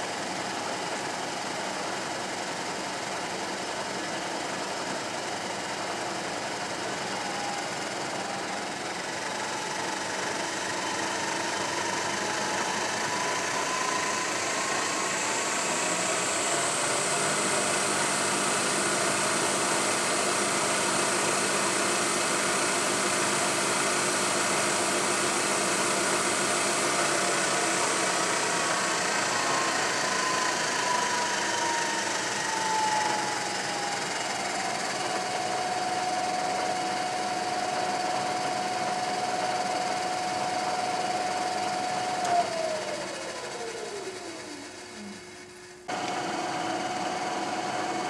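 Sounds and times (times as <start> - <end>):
milling machine hum and whine: 0.0 - 48.0.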